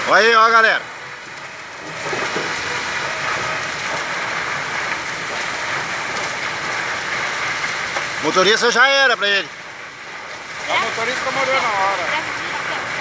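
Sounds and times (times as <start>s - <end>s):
large fire rushing and crackling: 0.0s - 13.0s.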